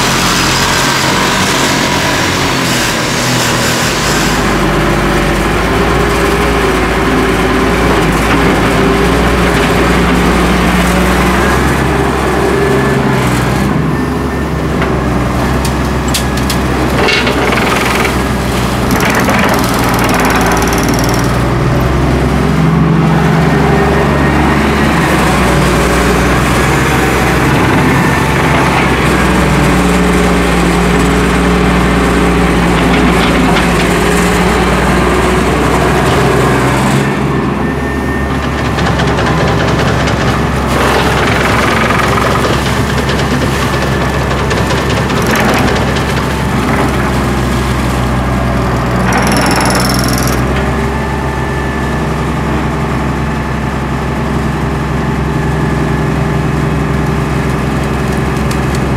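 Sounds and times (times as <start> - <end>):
excavator diesel engine: 0.0 - 58.9
motor tricycle engine: 0.0 - 58.9.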